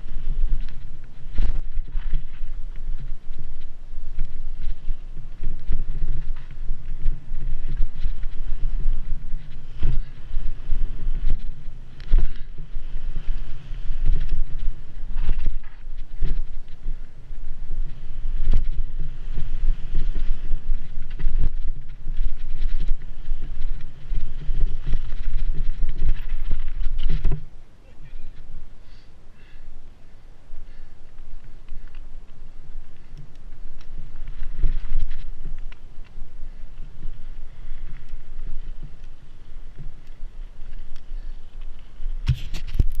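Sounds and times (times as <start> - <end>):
bike knocking and rattling: 0.0 - 27.5, 30.5 - 43.0
wind buffeting microphone: 0.0 - 28.9, 29.6 - 43.0.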